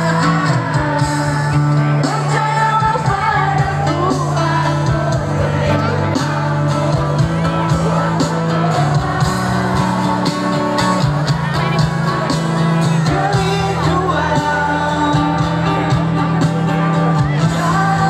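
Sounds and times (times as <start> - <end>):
live band with singing: 0.0 - 18.0
steady bass line: 0.0 - 18.0.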